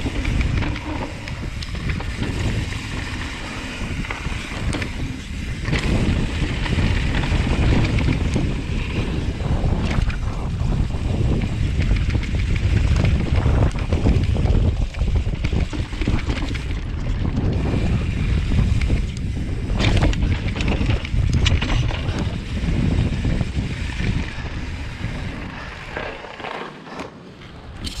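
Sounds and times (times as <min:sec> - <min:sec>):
wind buffeting microphone: 0:00.0 - 0:26.0
mountain bike rumbling and rattling: 0:00.0 - 0:28.0.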